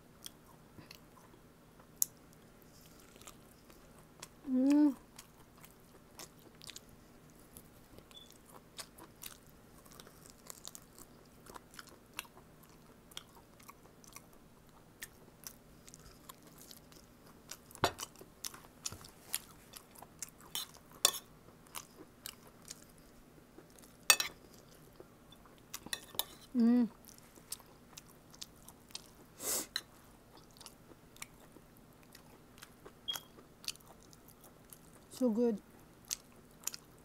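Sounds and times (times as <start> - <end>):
chewing and gnawing meat: 0.2 - 4.4, 5.0 - 37.0.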